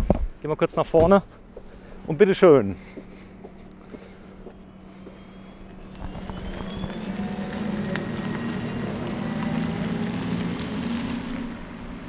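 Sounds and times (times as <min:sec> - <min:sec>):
tyres on wet asphalt: 0:01.0 - 0:12.0
electric car warning hum: 0:01.3 - 0:12.0.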